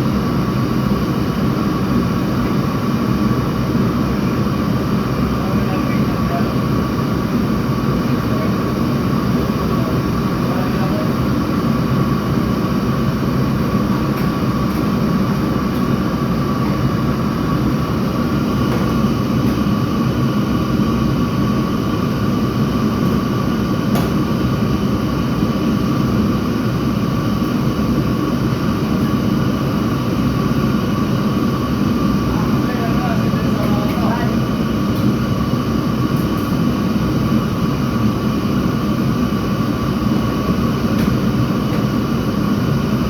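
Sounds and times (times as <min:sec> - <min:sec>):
machine rumble and hiss: 0:00.0 - 0:43.0.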